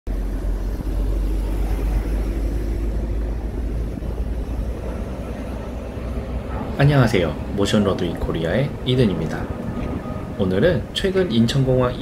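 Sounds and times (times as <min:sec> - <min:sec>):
jet engines rumbling: 0:00.1 - 0:12.0.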